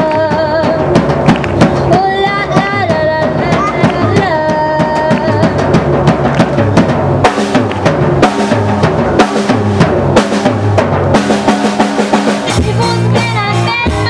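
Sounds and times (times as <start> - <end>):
drum kit steady beat: 0.0 - 14.0.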